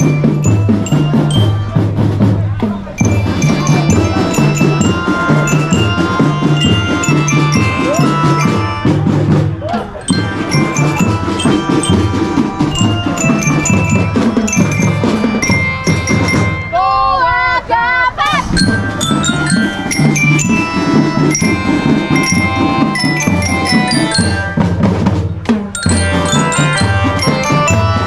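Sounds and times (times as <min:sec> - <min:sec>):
bass and snare drums beat: 0:00.0 - 0:16.7, 0:18.5 - 0:28.0
glockenspiel melody: 0:00.0 - 0:17.1, 0:18.4 - 0:28.0.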